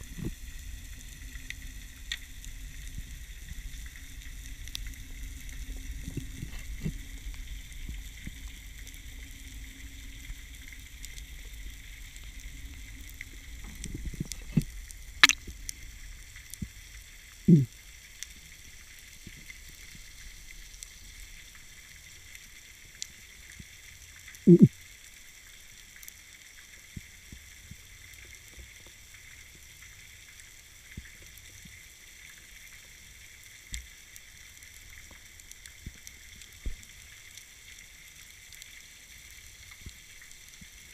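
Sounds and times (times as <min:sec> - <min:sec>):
underwater crackling hiss: 0:00.0 - 0:40.9.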